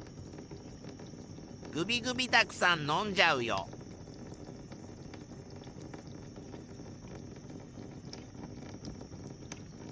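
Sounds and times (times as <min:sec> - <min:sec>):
cat lapping water: 0:00.0 - 0:02.3, 0:03.6 - 0:09.9.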